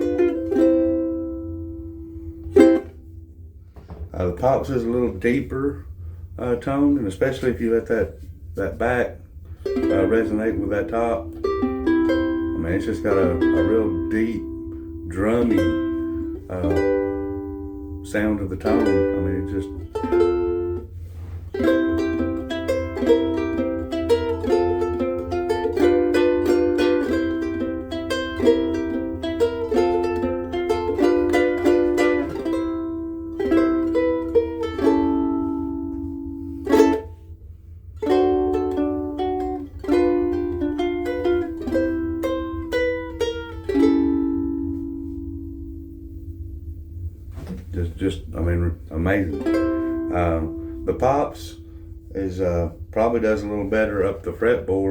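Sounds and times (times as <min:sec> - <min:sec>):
ukulele picked notes and chords: 0:00.0 - 0:03.3, 0:07.9 - 0:37.3, 0:37.9 - 0:47.6, 0:49.0 - 0:52.9.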